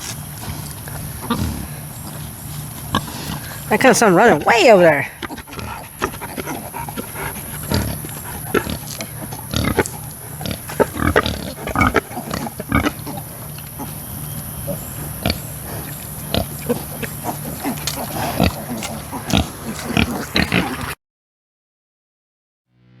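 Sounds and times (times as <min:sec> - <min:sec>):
pigs grunting: 0:00.0 - 0:21.0.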